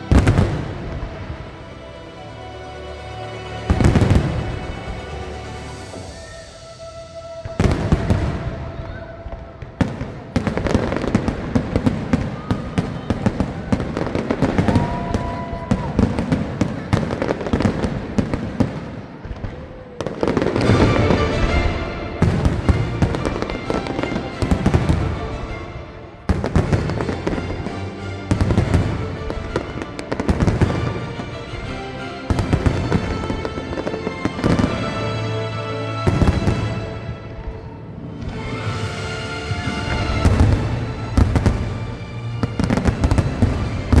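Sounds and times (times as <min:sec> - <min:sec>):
fireworks bangs and crackles: 0:00.0 - 0:02.1, 0:03.6 - 0:44.0
music playing: 0:00.0 - 0:19.4, 0:20.0 - 0:44.0.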